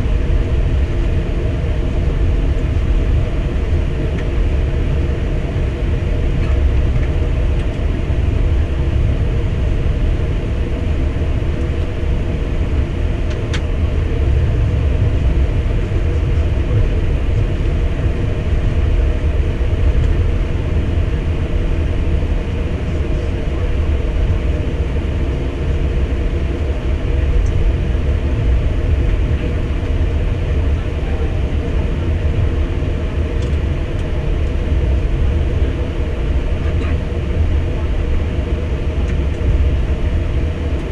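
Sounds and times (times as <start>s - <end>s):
airplane cockpit rumble: 0.0s - 40.9s.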